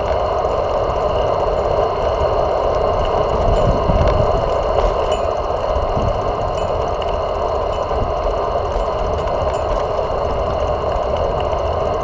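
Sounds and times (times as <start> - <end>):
bicycle road noise: 0.0 - 12.0
traffic: 0.0 - 12.0
wind noise: 0.0 - 12.0.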